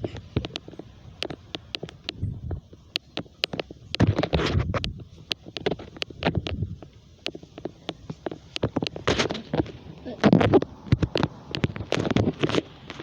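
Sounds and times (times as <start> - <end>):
sharp clicks and crackles: 0.0 - 13.0
wind buffeting microphone: 0.0 - 13.0.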